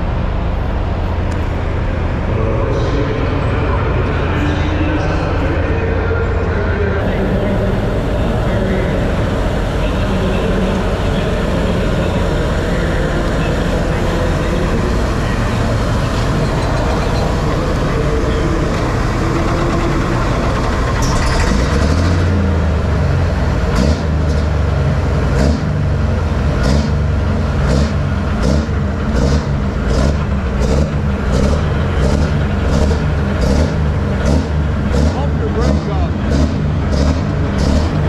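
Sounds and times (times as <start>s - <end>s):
tractor engine rumbling: 0.0s - 38.0s.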